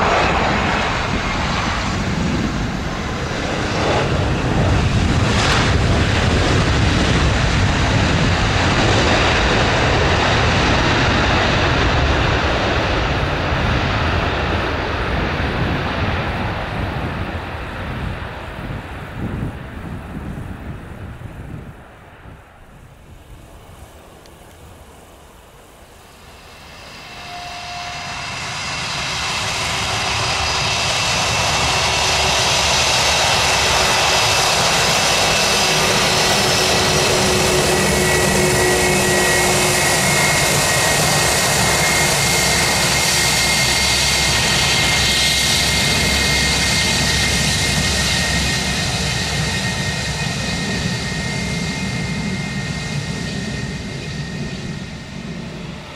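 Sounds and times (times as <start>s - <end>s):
jet engines at takeoff power: 0.0s - 55.9s.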